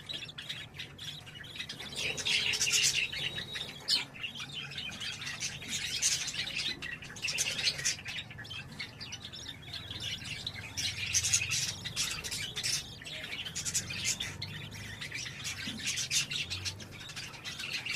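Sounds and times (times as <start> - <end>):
budgerigars chirping: 0.0 - 17.9.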